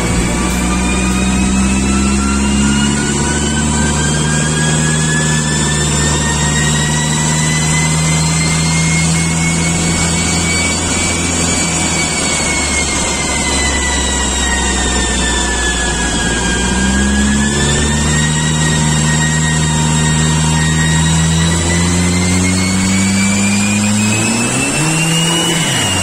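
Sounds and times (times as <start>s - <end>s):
rising whine: 0.0s - 26.0s
turbo car engine running: 0.0s - 26.0s.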